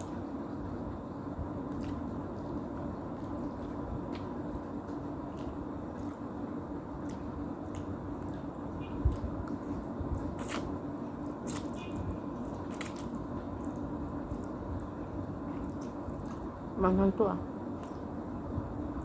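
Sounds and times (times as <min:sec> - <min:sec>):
faint steady hum: 0:00.0 - 0:19.0
wet chewing and lip smacks: 0:01.7 - 0:16.6, 0:17.7 - 0:18.2.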